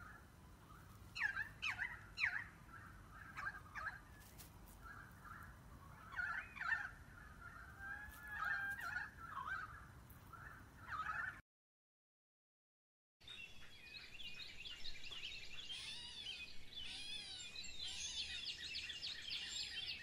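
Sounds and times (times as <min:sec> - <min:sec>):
sparrows chirping: 0:00.0 - 0:11.0, 0:13.2 - 0:20.0.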